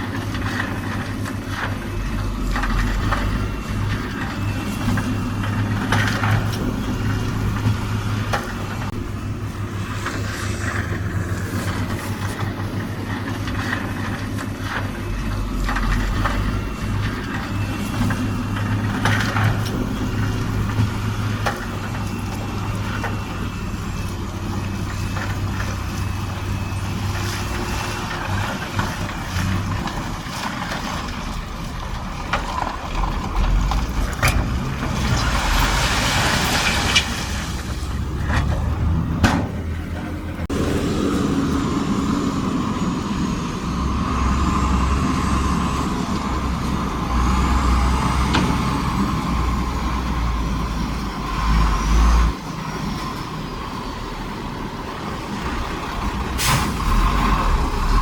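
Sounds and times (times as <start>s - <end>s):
bulldozer diesel engine rumbling: 0.0s - 58.0s.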